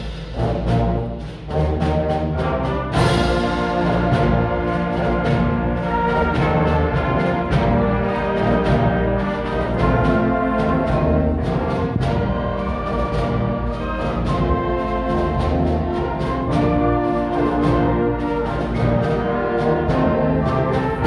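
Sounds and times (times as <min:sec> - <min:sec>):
concert band playing: 0:00.0 - 0:21.0.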